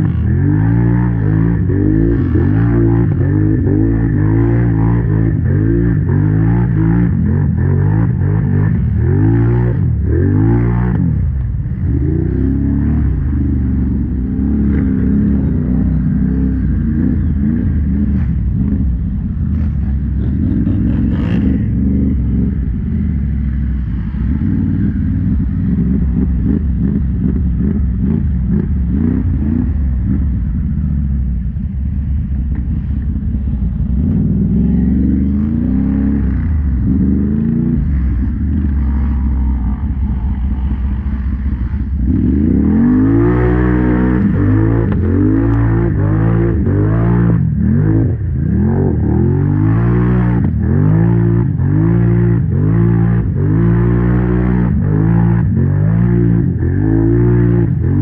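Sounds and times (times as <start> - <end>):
quad bike engine revving: 0.0 - 31.0, 33.9 - 58.0.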